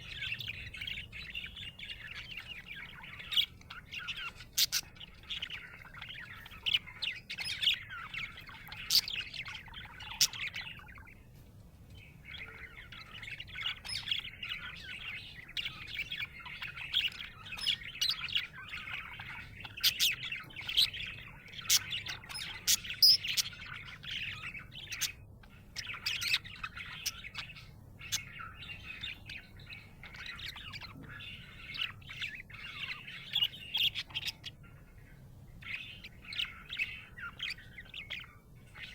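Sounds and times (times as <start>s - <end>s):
budgerigar chattering: 0.0s - 11.2s, 12.3s - 35.0s, 35.6s - 38.9s.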